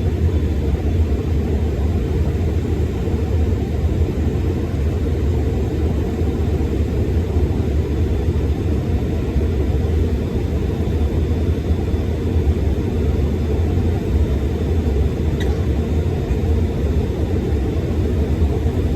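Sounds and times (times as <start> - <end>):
jet engines and airflow in cabin: 0.0 - 18.9.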